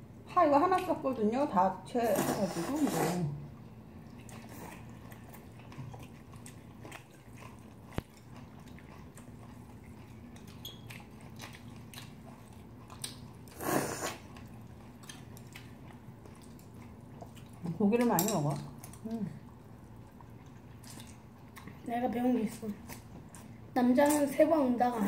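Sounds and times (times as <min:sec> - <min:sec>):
people chewing noodles: 0:01.9 - 0:24.5.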